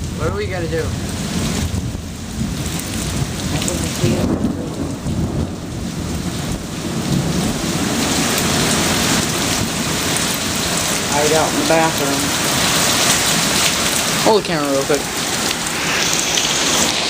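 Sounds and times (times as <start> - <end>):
heavy rain pouring: 0.0 - 17.0
thunder rumbling: 0.8 - 17.0.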